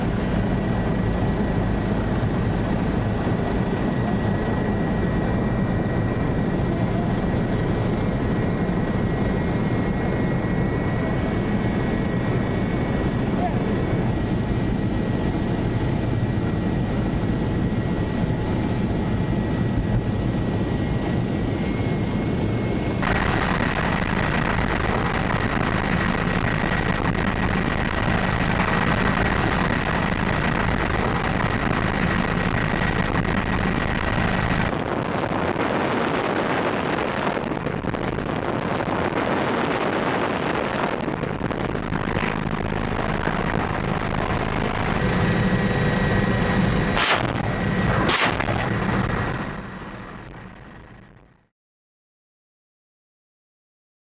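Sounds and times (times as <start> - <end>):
helicopter rotor and turbine: 0.0 - 51.5
high turbine whine: 0.0 - 51.5.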